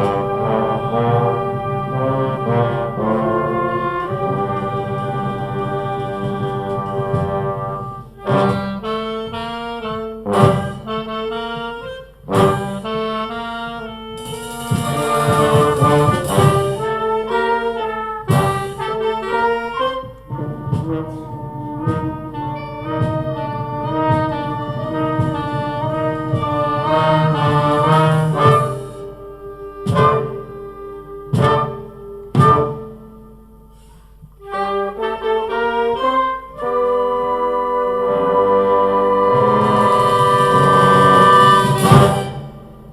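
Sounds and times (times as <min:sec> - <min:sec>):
brass band playing: 0:00.0 - 0:42.9.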